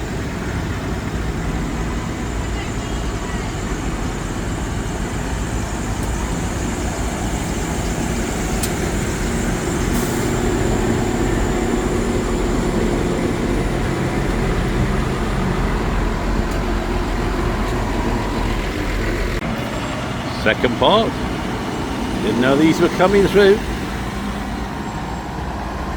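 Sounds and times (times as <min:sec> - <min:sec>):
tractor engines passing: 0:00.0 - 0:25.9.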